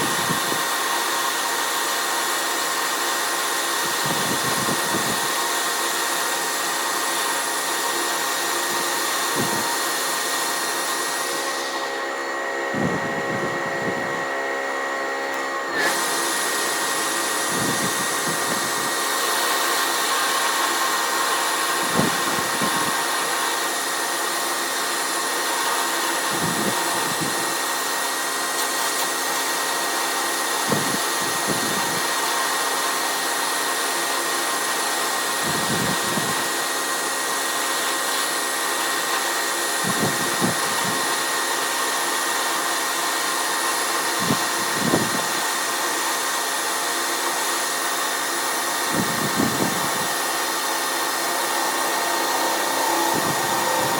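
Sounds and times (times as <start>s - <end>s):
shop machine whirring: 0.0s - 53.9s.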